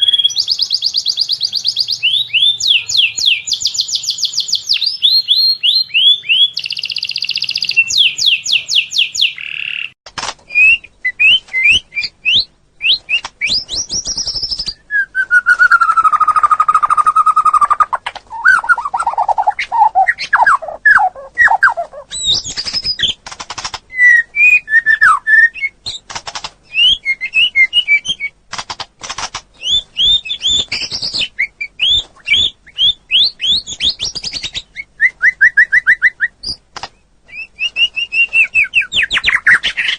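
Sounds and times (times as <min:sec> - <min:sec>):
songbird trills and chirps: 0:00.0 - 0:23.2, 0:29.5 - 0:39.9.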